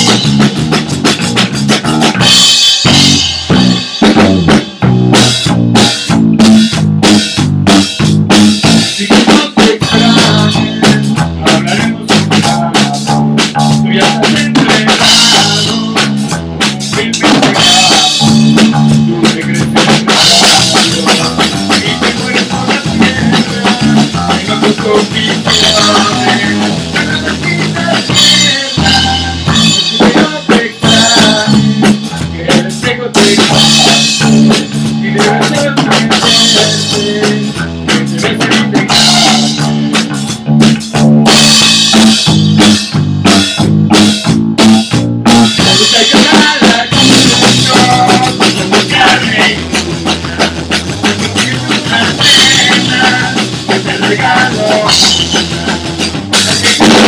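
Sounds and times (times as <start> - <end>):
busy drumming: 0.0 - 57.0
electric bass: 0.0 - 57.0.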